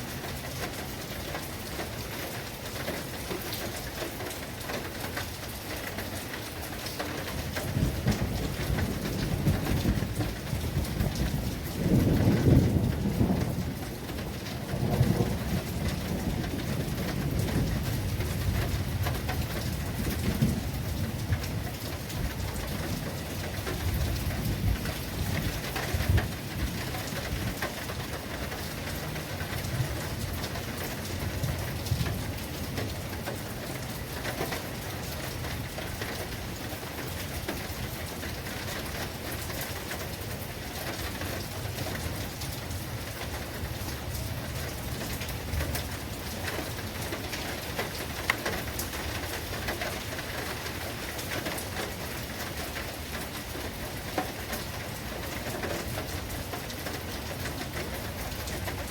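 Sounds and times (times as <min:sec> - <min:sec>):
steady rain hiss: 0:00.0 - 0:58.9
raindrop hits: 0:02.8 - 0:58.9.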